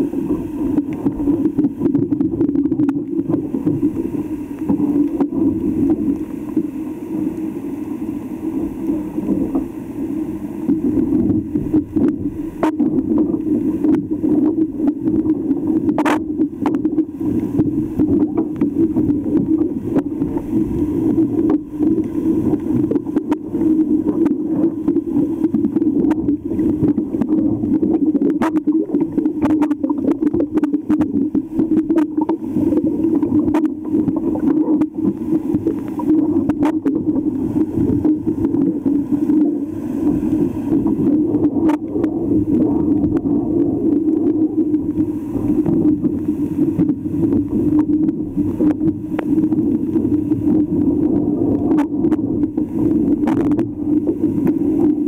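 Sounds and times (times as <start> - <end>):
clicks and scrapes on hull: 0.0 - 6.8, 10.6 - 55.0
steady low hum: 0.0 - 55.0.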